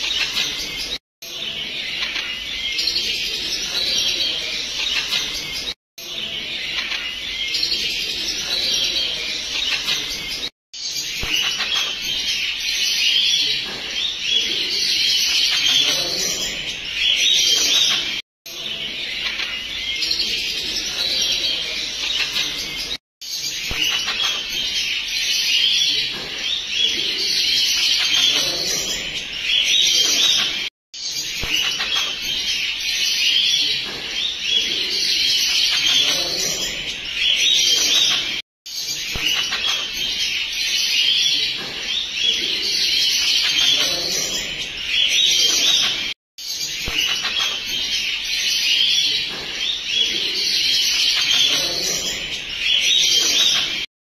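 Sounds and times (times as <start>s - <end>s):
bird chirping and twittering: 0.0s - 53.9s.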